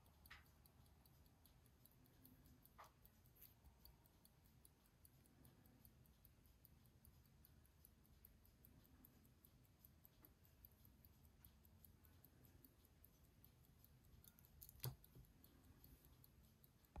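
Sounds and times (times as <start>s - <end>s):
watch ticking: 0.0s - 17.0s.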